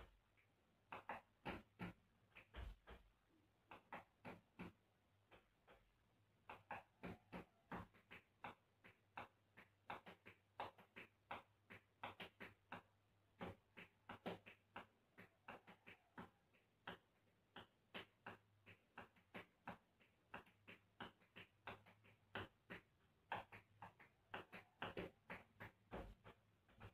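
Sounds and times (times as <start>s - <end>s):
tap shoes on hard floor: 0.9s - 3.1s, 6.5s - 26.9s.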